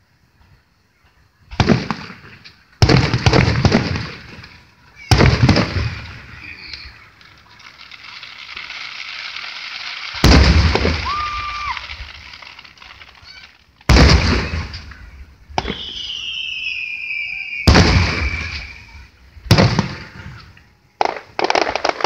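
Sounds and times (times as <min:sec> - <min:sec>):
firework shells booming: 0:01.5 - 0:22.0.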